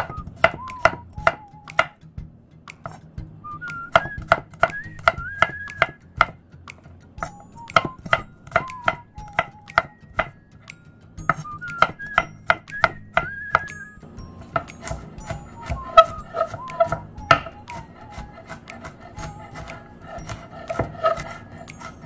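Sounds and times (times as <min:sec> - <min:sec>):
knife chopping on cutting board: 0:00.0 - 0:02.0, 0:03.9 - 0:06.4, 0:07.2 - 0:10.4, 0:11.2 - 0:13.7, 0:14.4 - 0:22.0
light background music: 0:00.0 - 0:22.0.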